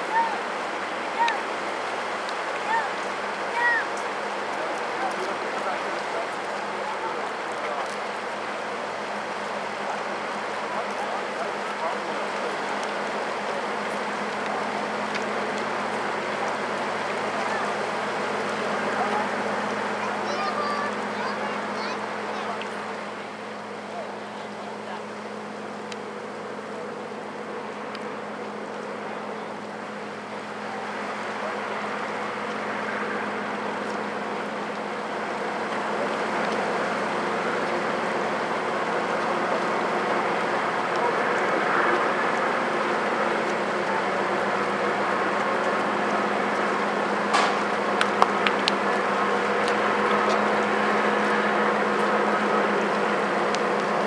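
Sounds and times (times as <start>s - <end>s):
diesel locomotive drone: 0.0s - 54.0s
train cars rolling: 0.0s - 54.0s.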